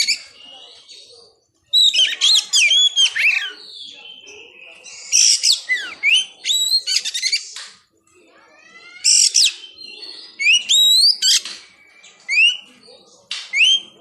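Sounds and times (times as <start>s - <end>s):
magpie-robin singing: 0.0s - 14.0s.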